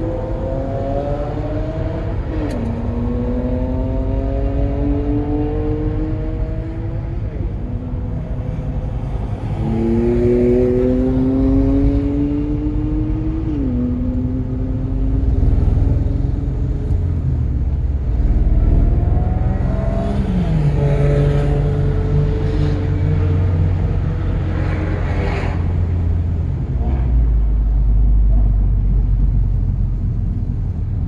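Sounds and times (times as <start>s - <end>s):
car engine accelerating: 0.0s - 31.0s
wind and road rumble: 0.0s - 31.0s.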